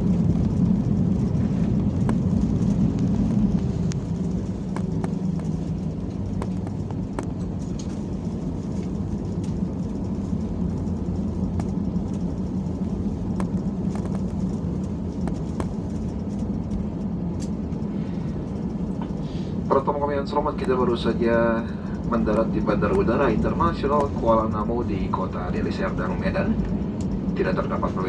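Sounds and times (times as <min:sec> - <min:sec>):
aircraft cabin low rumble: 0:00.0 - 0:28.0.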